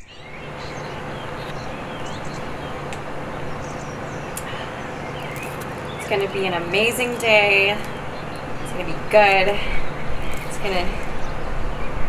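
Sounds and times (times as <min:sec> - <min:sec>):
rushing background hum: 0:00.0 - 0:12.0.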